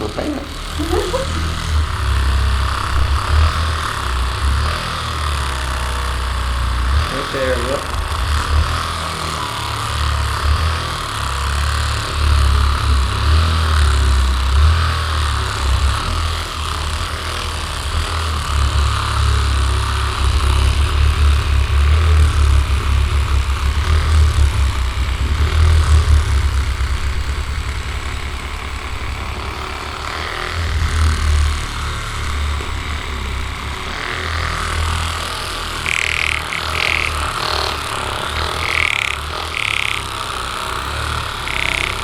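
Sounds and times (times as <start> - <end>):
vibration massagers buzzing: 0.0 - 42.0.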